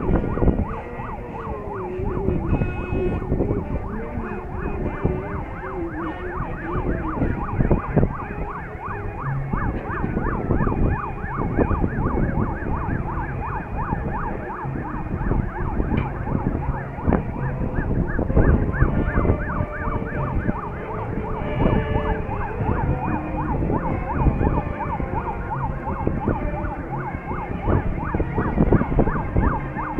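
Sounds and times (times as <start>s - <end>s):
sirens yelping: 0.0s - 29.9s.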